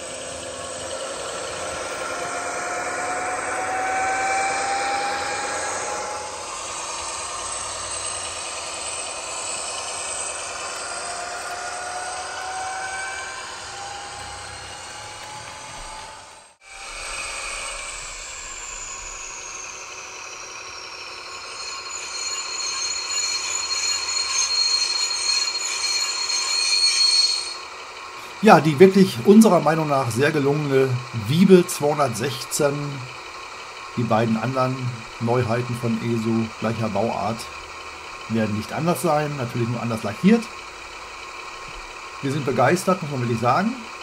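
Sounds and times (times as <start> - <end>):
model train diesel engine sound: 0.0 - 44.0
rising whines: 0.0 - 44.0.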